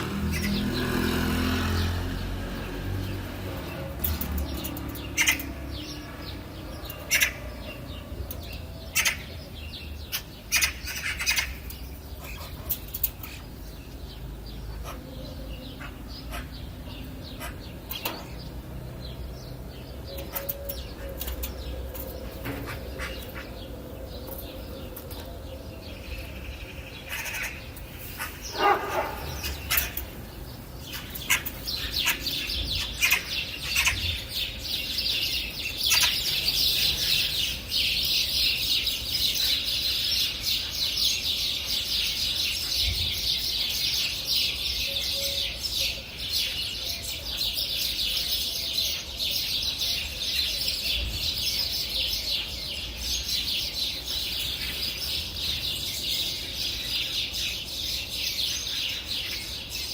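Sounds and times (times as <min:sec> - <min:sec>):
wild birds chirping: 0:00.0 - 0:59.9.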